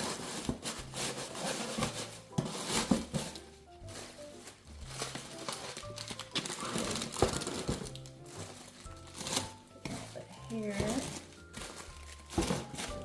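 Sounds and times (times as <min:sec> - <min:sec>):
background music of stepping notes: 0:00.0 - 0:13.0
plastic grass crinkling: 0:00.0 - 0:13.0.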